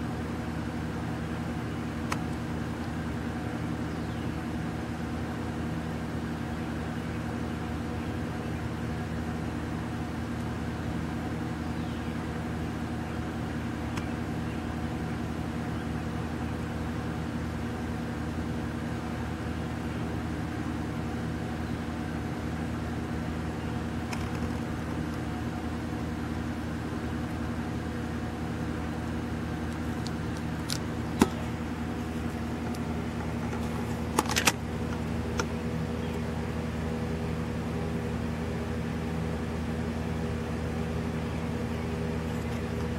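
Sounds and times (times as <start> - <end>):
low mechanical hum: 0.0 - 42.9.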